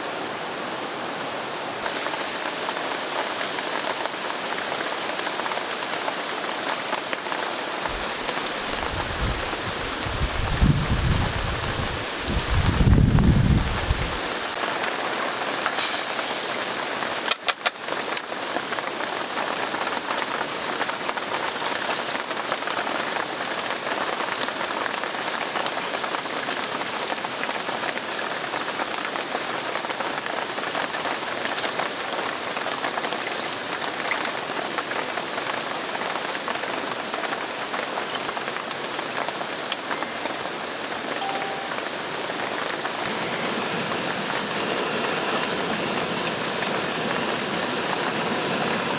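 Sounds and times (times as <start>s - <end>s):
heavy rain falling: 1.1s - 48.9s.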